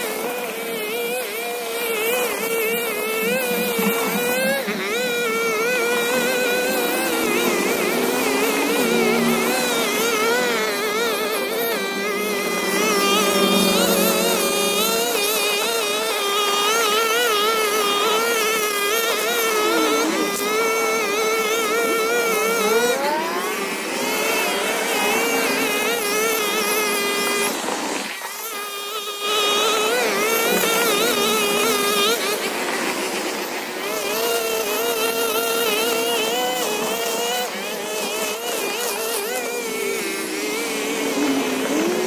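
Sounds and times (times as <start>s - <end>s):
string trimmer cutting grass: 0.0s - 42.0s.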